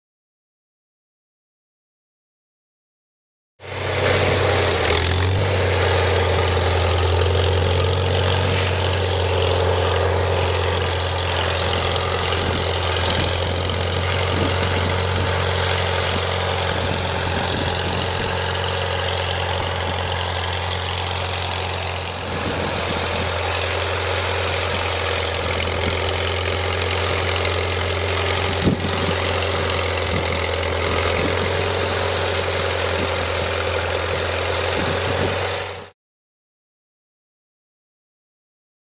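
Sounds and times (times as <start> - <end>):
tractor engine running: 3.6 - 35.9.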